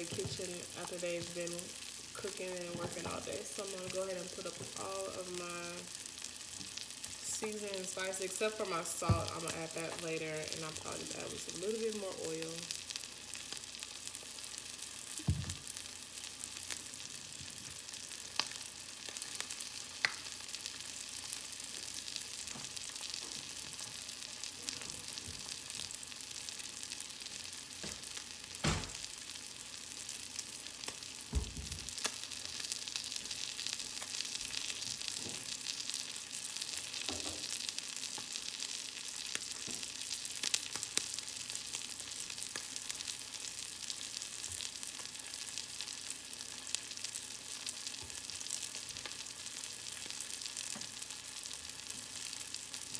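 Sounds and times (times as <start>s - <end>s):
fish fillet sizzling in oil: 0.0s - 52.9s.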